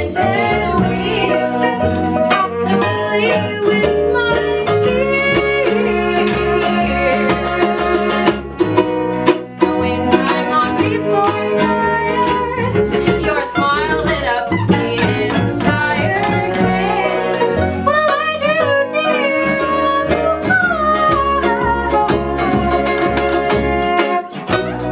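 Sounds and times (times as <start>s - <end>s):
woman singing: 0.0s - 8.3s, 9.6s - 24.4s
fiddle: 0.0s - 24.9s
strummed ukuleles: 0.0s - 24.9s
upright double bass: 0.0s - 24.9s.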